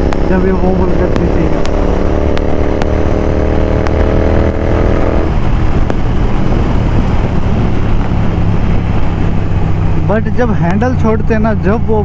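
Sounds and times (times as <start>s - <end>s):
wind rush: 0.0s - 11.6s
motorcycle engine at high speed: 0.0s - 12.0s
road noise: 0.0s - 12.0s.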